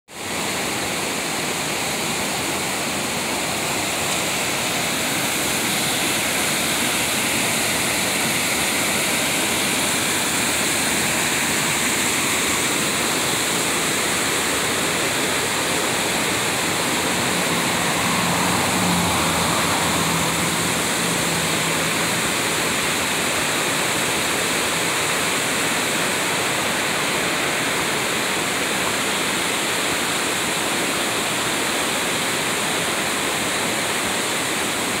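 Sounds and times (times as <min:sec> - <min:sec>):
stream rushing over rocks: 0:00.1 - 0:35.0.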